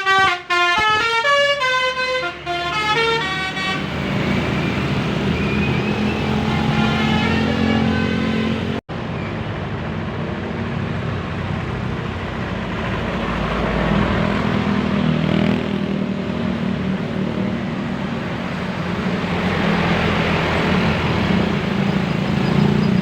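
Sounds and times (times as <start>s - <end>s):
road traffic engine drone: 0.0s - 23.0s.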